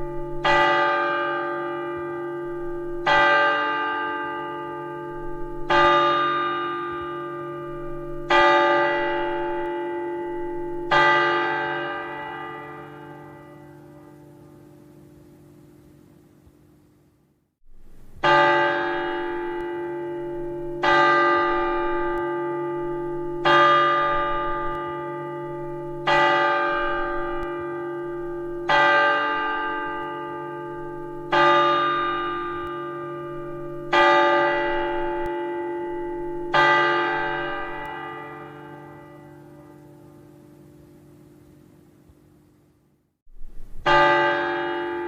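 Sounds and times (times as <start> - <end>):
cathedral bell tolling: 0.0 - 15.1, 17.9 - 40.7, 43.6 - 45.0.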